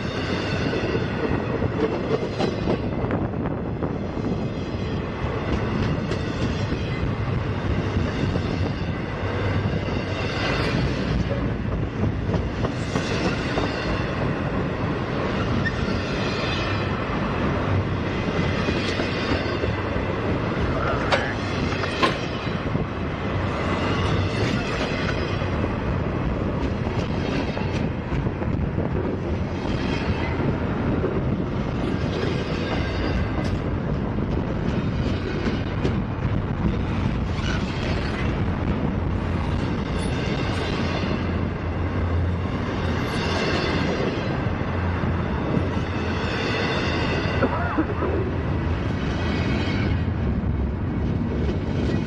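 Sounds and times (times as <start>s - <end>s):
freight train rolling past: 0.0s - 52.0s.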